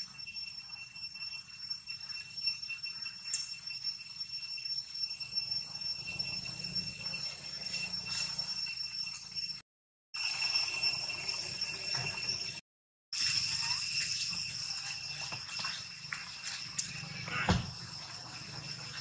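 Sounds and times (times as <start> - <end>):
insects droning: 0.0 - 9.6, 13.2 - 19.0.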